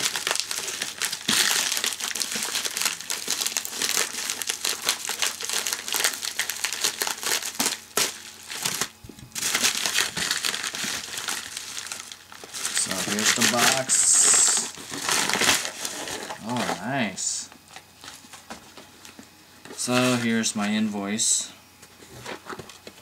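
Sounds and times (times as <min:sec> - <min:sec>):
plastic mailer bag crinkling: 0:00.0 - 0:20.5.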